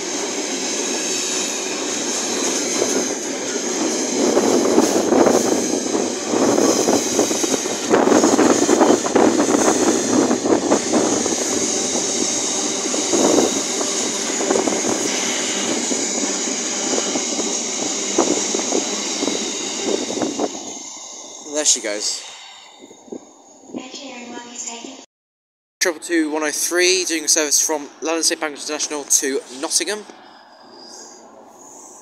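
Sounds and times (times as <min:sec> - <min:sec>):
freight train wheels rumbling: 0:00.0 - 0:24.9, 0:25.9 - 0:32.0.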